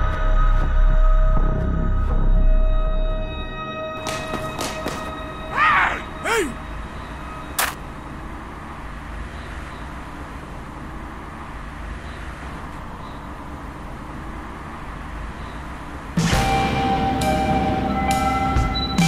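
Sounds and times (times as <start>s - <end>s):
low street ambience rumble: 0.0s - 19.0s.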